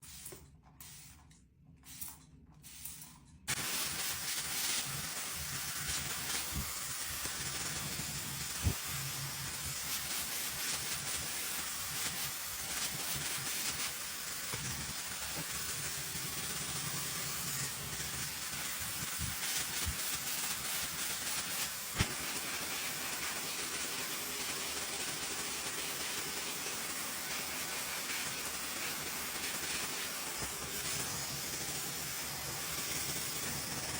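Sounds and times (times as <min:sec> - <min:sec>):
hair dryer blowing air: 0:03.5 - 0:33.9.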